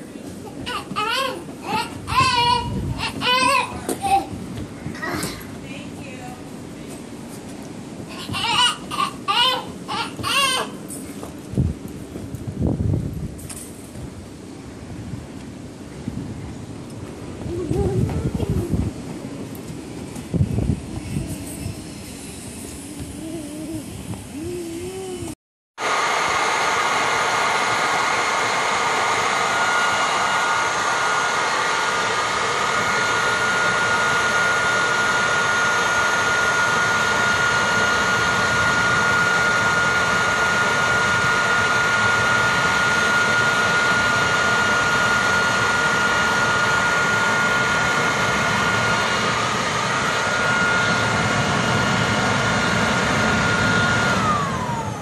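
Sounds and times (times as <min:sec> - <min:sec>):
leaf blower whining: 0:00.4 - 0:04.4, 0:07.6 - 0:11.3, 0:17.4 - 0:55.0.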